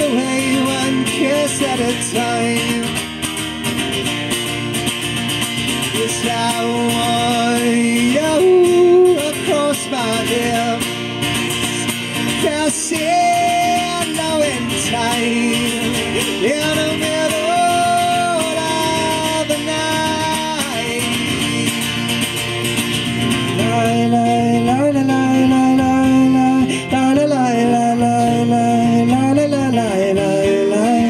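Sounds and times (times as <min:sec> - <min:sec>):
person singing: 0:00.0 - 0:03.2, 0:05.8 - 0:22.5, 0:23.3 - 0:31.0
acoustic guitar playing: 0:00.0 - 0:31.0.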